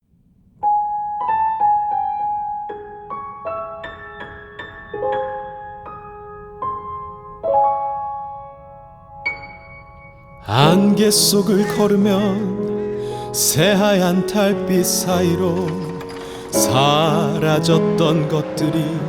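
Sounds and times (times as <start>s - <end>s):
slow piano melody: 0.5s - 19.0s
piano chord: 0.6s - 19.0s.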